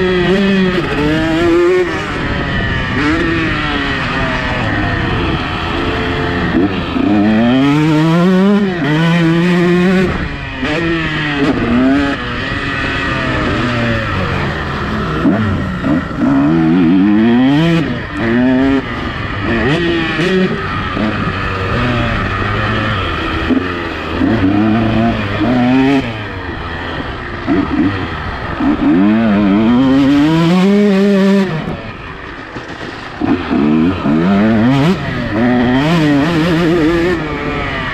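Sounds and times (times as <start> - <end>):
motocross bike engine revving: 0.0 - 37.9
steady rushing noise: 0.0 - 37.9.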